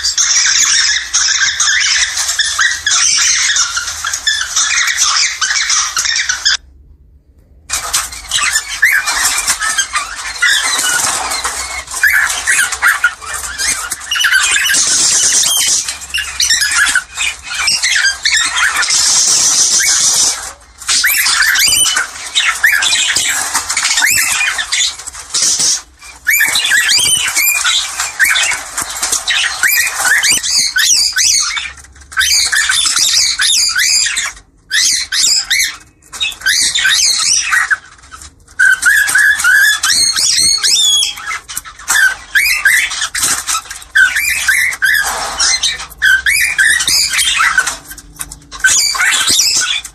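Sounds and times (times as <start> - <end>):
cockatiels chattering and squawking: 0.0 - 6.6, 7.7 - 49.9.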